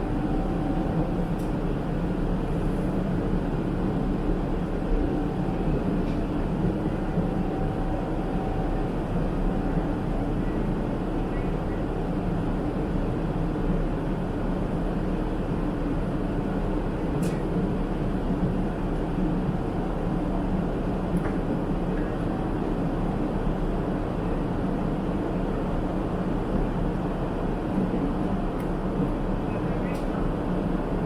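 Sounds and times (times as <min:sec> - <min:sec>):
airflow and jet engine drone: 0:00.0 - 0:31.0.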